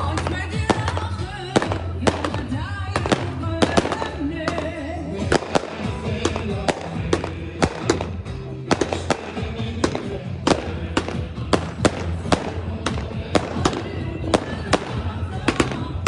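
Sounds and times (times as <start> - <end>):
fireworks bangs and crackles: 0.0 - 16.0
loud music with heavy bass: 0.0 - 16.0.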